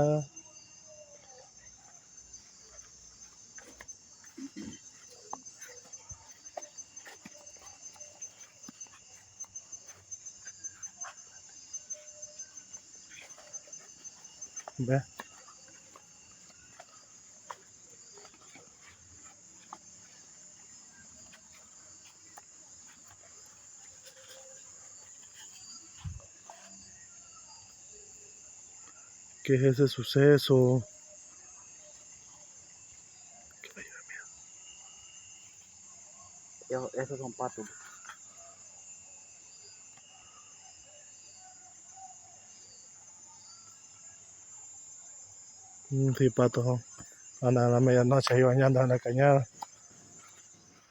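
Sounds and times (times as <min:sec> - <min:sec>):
crickets chirring: 0:00.0 - 0:50.9
night insects trilling: 0:00.0 - 0:50.9.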